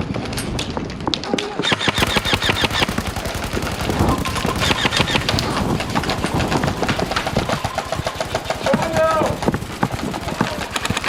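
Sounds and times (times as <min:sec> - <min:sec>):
airsoft guns firing automatic bursts: 0:01.6 - 0:11.0.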